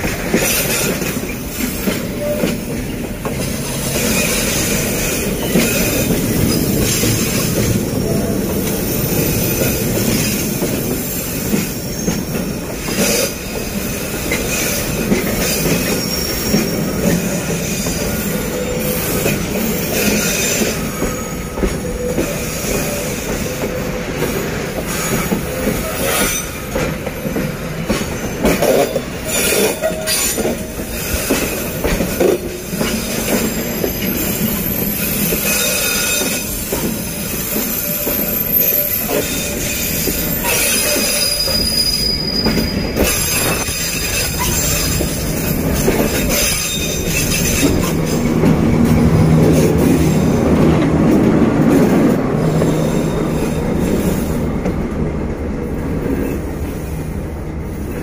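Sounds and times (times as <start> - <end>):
steel wheels squealing on rails: 0.0 - 54.9, 55.6 - 58.0
diesel locomotive engine: 0.0 - 58.0.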